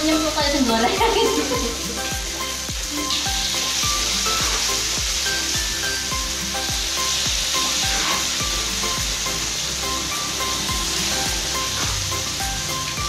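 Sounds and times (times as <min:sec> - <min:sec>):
background music with beat: 0:00.0 - 0:13.0
food sizzling in hot oil: 0:00.0 - 0:13.0.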